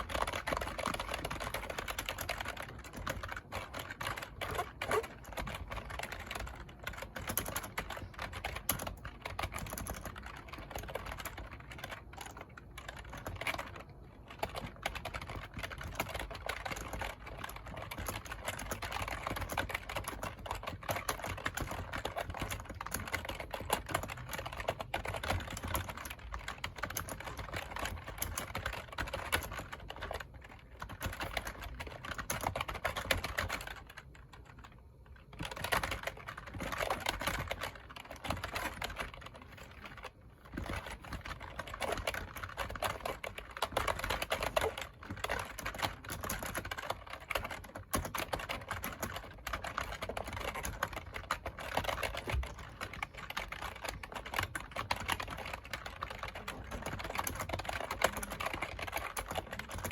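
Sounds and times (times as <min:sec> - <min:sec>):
fast typing on keyboard: 0:00.0 - 0:59.9.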